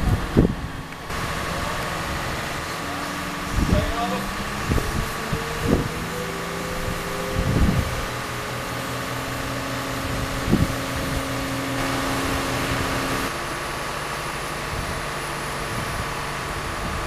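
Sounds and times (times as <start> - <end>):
diesel crane engine running: 0.0 - 17.0.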